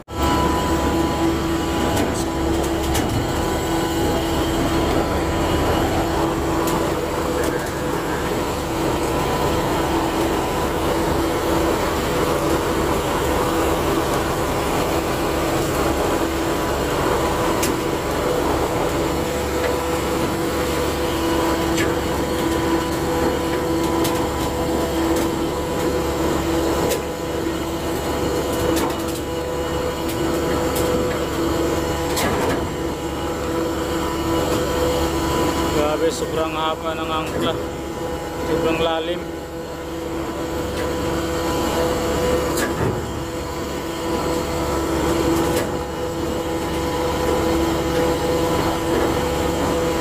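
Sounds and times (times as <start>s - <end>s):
ship engine humming: 0.1s - 28.5s, 32.7s - 50.0s.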